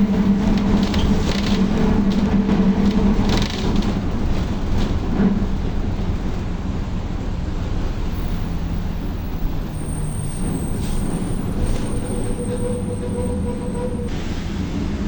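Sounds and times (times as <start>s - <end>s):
bus drivetrain rumble: 0.0s - 15.0s.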